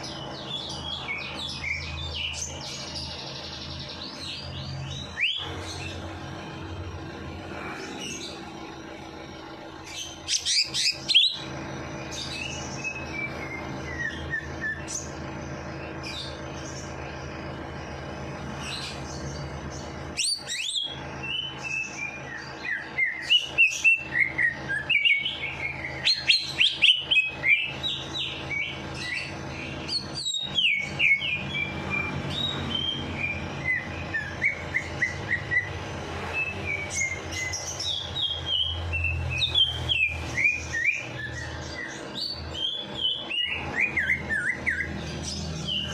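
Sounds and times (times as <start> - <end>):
songbirds chirping and trilling: 0.0 - 45.9
steady low hum: 0.0 - 45.9.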